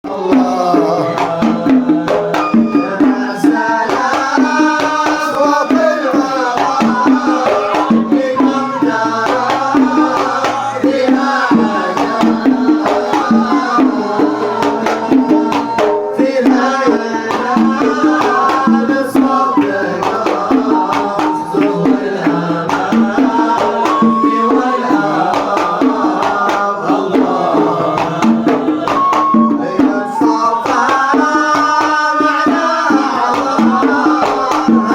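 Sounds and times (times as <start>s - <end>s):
hand-drum rhythm: 0.0s - 34.9s.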